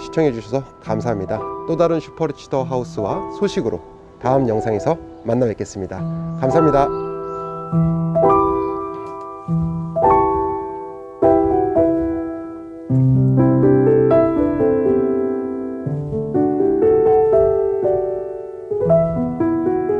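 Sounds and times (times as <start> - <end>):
piano music: 0.0 - 19.9.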